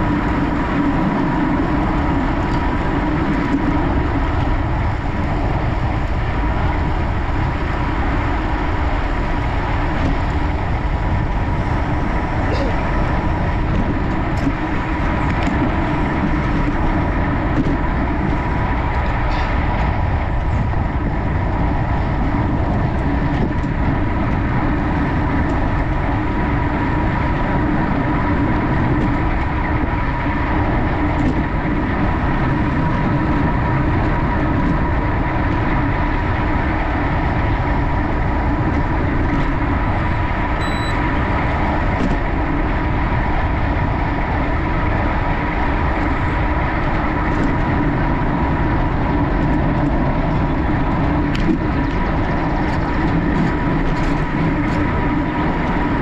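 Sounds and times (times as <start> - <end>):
bicycle tyre and drivetrain noise: 0.0 - 56.0
wind rushing over microphone: 0.0 - 56.0.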